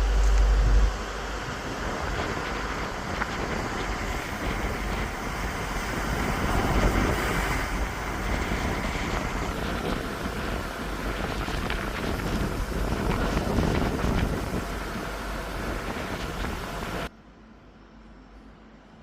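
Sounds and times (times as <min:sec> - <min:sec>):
wind blowing over microphone: 0:00.0 - 0:17.1.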